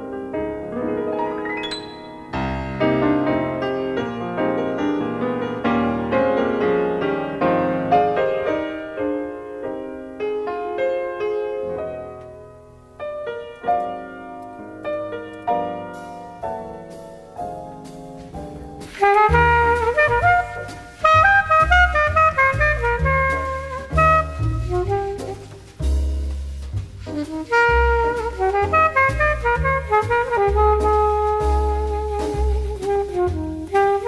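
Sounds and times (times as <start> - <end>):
piano music: 0.0 - 34.0.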